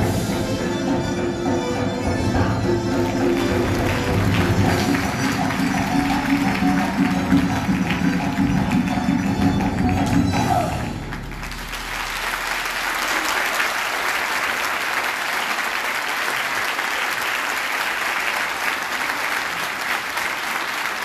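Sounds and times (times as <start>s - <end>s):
audience applauding: 2.8s - 21.0s.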